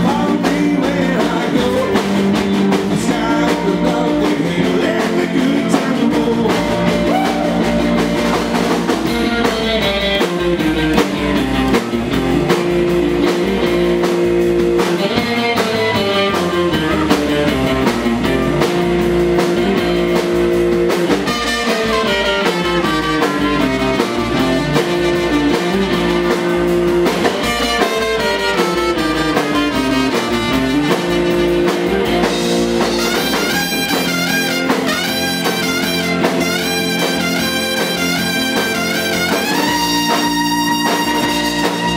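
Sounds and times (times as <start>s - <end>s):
live rock and roll band: 0.0s - 41.9s.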